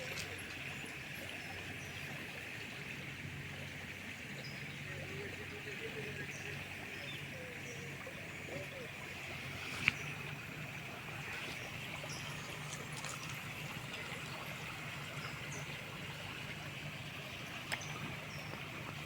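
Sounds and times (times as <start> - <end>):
river water running: 0.0 - 19.0.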